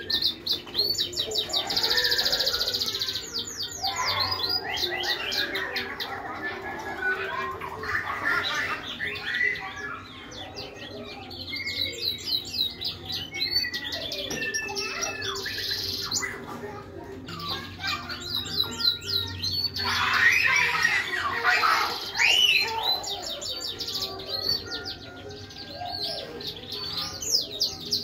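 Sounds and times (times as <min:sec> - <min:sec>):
finch singing: 0:00.0 - 0:28.0.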